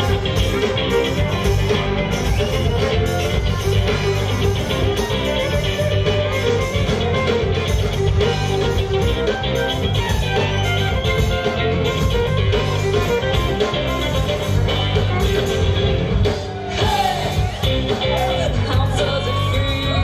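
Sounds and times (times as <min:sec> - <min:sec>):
fiddle bowed: 0:00.0 - 0:16.5
rock band playing: 0:00.0 - 0:20.0.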